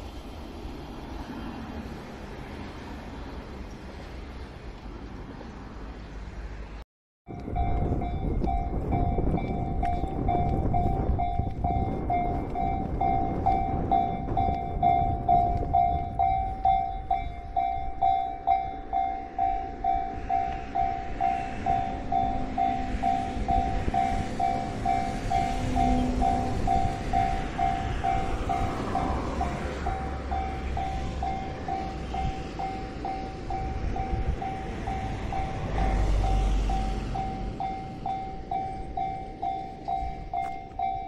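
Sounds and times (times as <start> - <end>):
approaching train: 0.0 - 41.0
level crossing bell ringing: 7.3 - 41.0.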